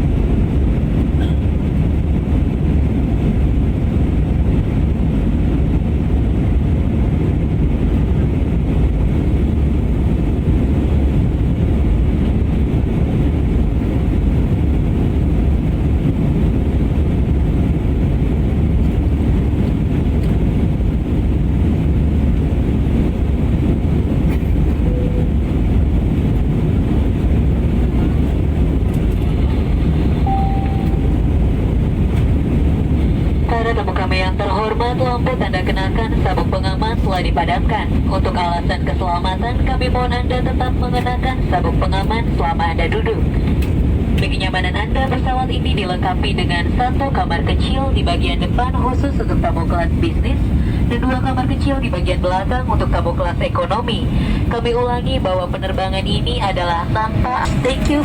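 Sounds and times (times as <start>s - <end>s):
jet cabin engine rumble: 0.0s - 58.0s.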